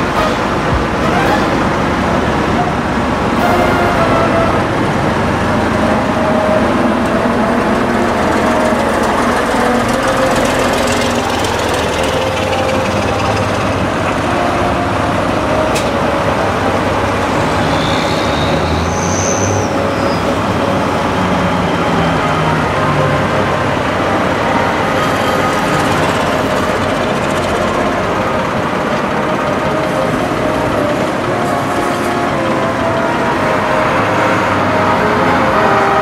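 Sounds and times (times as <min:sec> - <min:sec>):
tractor diesel engines under load: 0:00.0 - 0:36.0.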